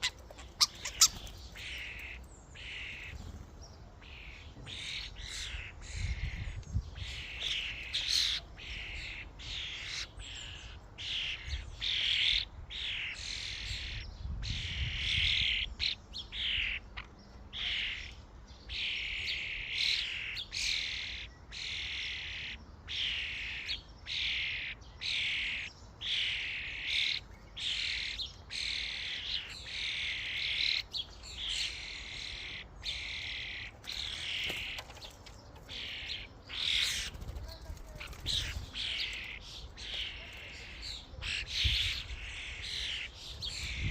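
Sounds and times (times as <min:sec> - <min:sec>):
starlings chirping and squawking: 0:00.0 - 0:43.9.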